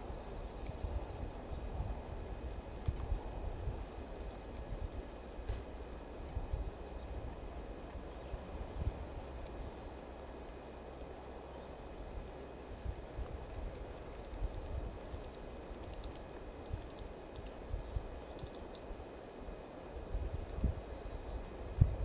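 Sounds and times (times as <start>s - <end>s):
songbirds calling: 0.0s - 20.1s, 20.8s - 21.6s.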